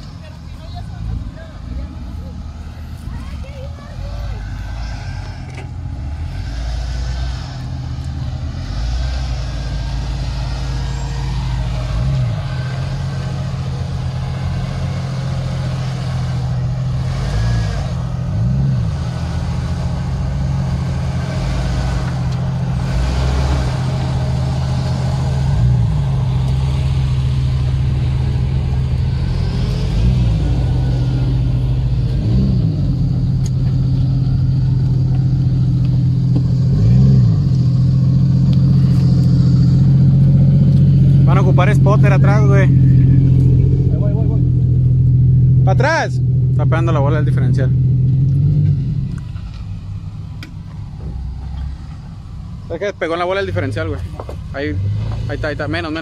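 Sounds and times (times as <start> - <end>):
engine running at low revs: 0.0 - 56.0
engine throttle blips: 0.0 - 56.0.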